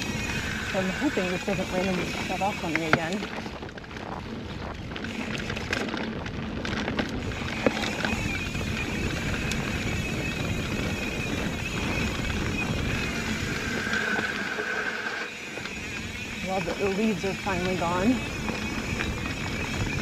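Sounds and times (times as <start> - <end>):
bike tyre rumble on dirt: 0.0 - 20.0
wind on microphone: 0.0 - 20.0.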